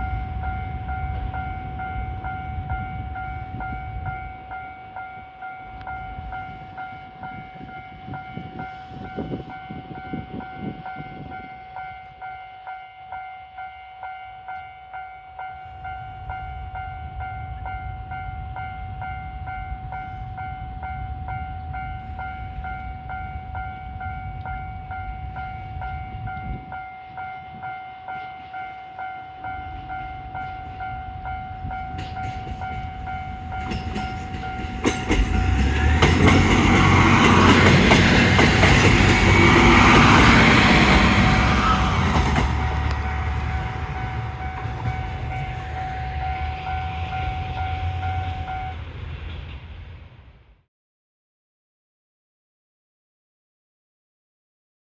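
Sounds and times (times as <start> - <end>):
train approaching: 0.0 - 50.7.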